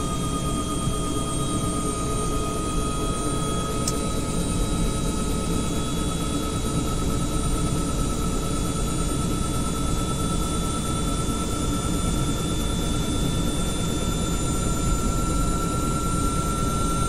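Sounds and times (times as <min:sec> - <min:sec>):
helicopter engine whine and rumble: 0:00.0 - 0:17.0.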